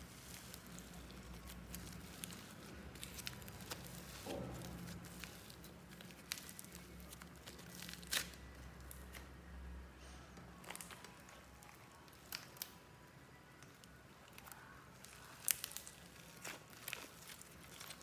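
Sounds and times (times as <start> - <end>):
slime squeezed popping and crackling: 0.0 - 9.2, 10.6 - 12.8, 14.2 - 18.0.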